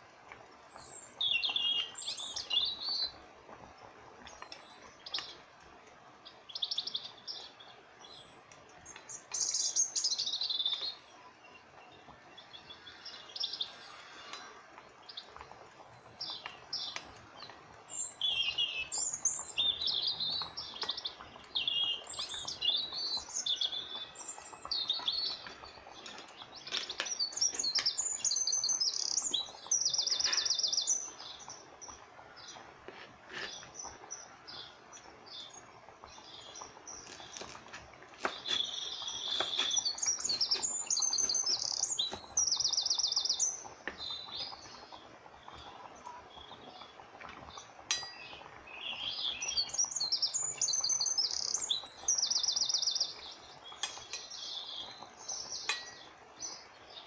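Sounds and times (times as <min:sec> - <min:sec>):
small birds chirping: 0:00.3 - 0:57.0.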